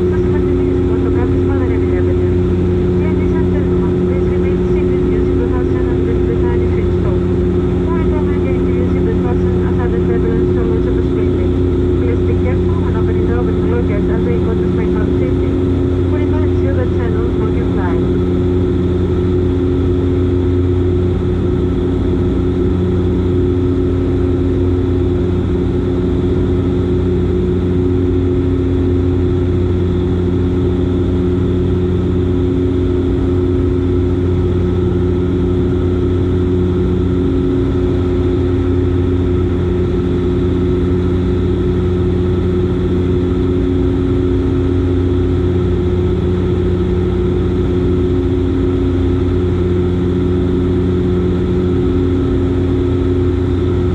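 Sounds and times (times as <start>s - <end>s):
turboprop engines droning: 0.0s - 53.9s.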